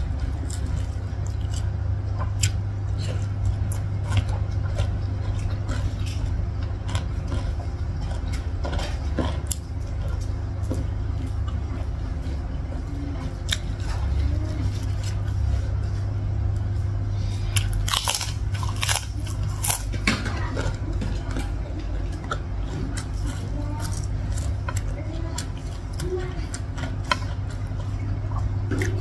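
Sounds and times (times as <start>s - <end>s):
person chewing crunchy food: 0.0s - 29.0s
steady low hum: 0.0s - 29.0s.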